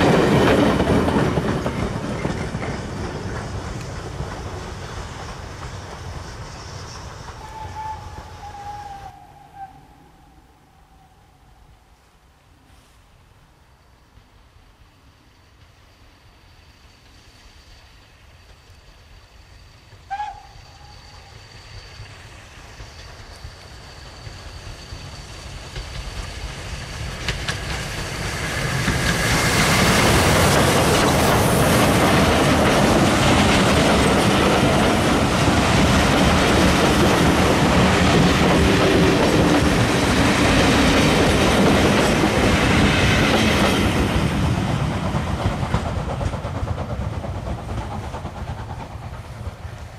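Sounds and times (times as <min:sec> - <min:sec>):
steam train passing: 0:00.0 - 0:49.9.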